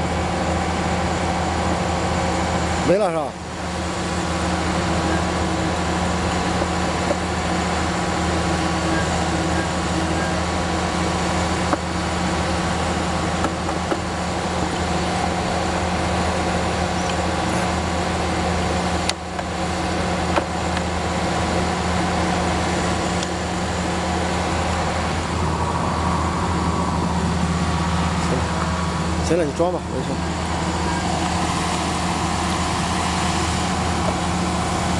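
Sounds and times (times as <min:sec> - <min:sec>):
drilling rig engine humming: 0:00.0 - 0:34.9.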